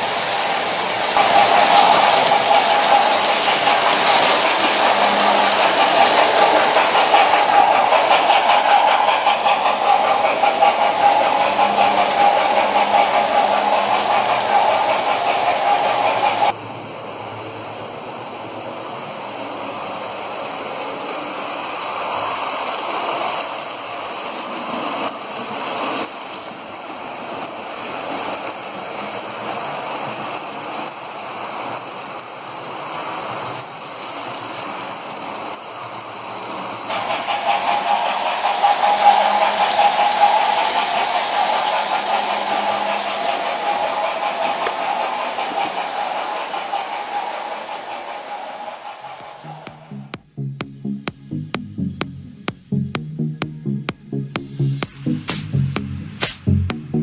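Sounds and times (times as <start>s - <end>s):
model train motors whirring: 0.0s - 50.2s.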